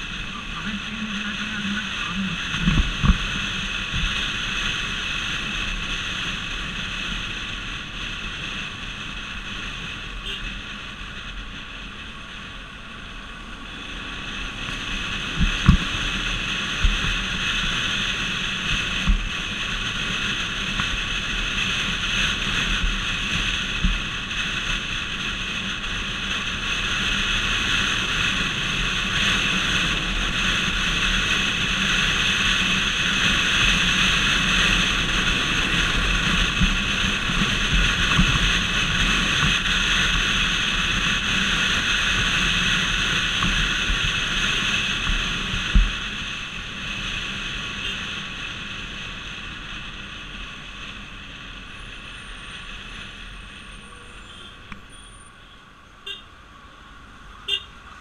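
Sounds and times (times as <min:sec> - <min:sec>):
wind rushing over microphone: 0:00.0 - 0:51.6
motorcycle engine at speed: 0:00.0 - 0:55.2
road noise: 0:00.0 - 0:58.0.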